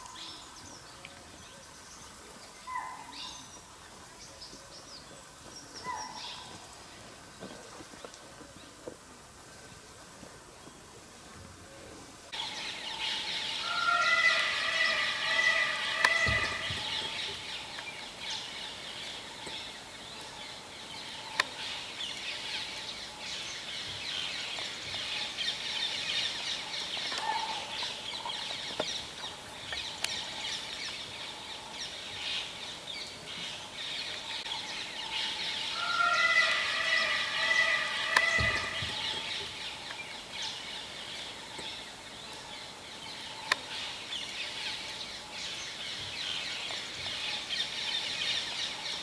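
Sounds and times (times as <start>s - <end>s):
birds and insects chorus: 0.0s - 11.0s, 11.7s - 49.0s.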